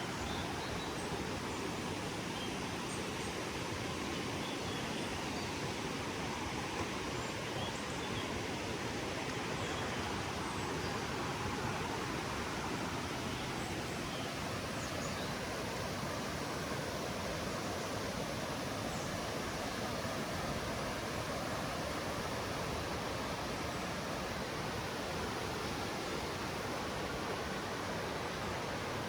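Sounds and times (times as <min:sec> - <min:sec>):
steady rain hissing: 0:00.0 - 0:29.0.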